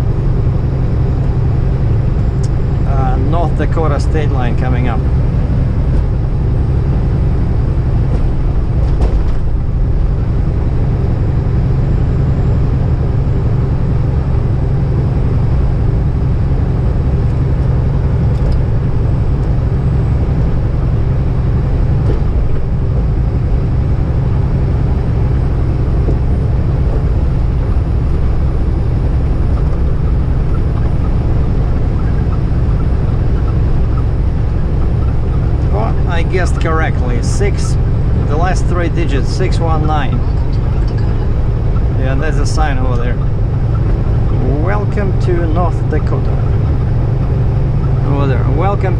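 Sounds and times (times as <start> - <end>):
truck engine and tyre drone: 0.0 - 48.9.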